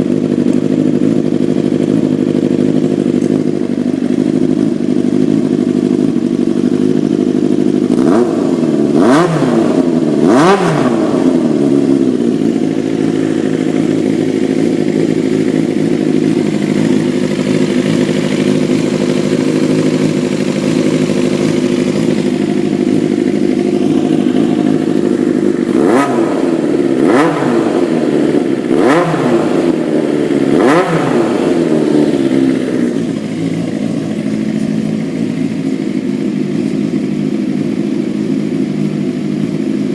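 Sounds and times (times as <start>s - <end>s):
engine revving: 0.0s - 39.9s
motorcycle engine idling: 0.0s - 39.9s.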